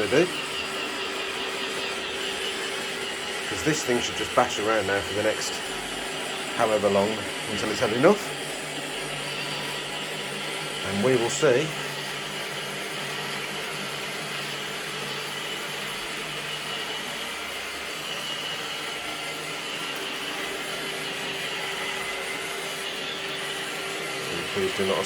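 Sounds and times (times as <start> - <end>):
robot vacuum running: 0.0 - 25.0.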